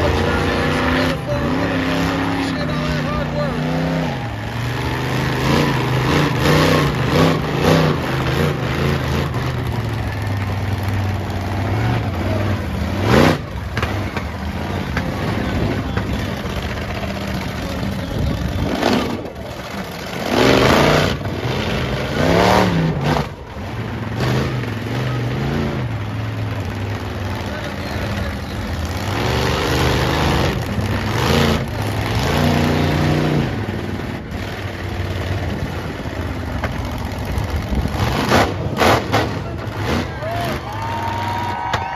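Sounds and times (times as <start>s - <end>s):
truck engine revving hard: 0.0s - 41.9s.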